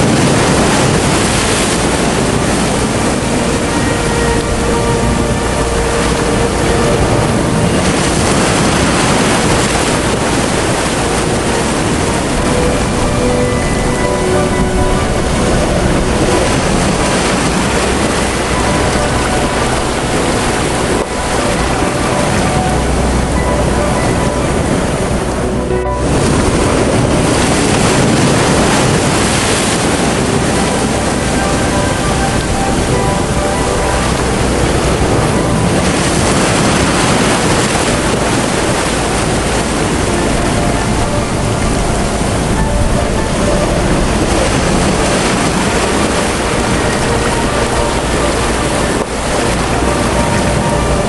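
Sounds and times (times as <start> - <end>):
floodwater rushing over walls: 0.0 - 51.0
heavy rain: 0.0 - 51.0.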